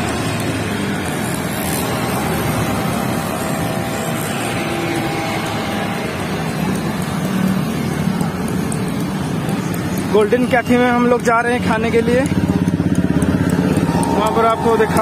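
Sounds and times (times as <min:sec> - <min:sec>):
city road traffic: 0:00.0 - 0:15.0
motorbikes passing: 0:00.0 - 0:15.0.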